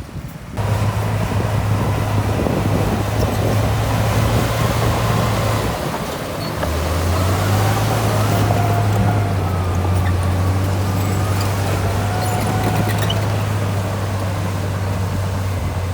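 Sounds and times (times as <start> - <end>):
heavy diesel engine under load: 0.0 - 15.9.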